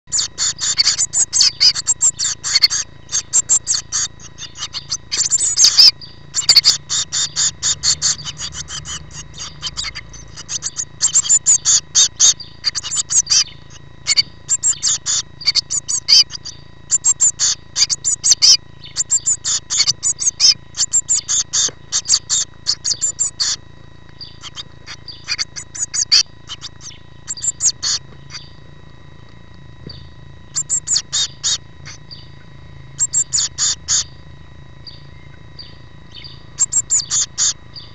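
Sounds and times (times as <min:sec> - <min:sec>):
faint steady whine: 0:00.0 - 0:37.9
nestlings chirping: 0:00.1 - 0:34.2, 0:34.8 - 0:37.9.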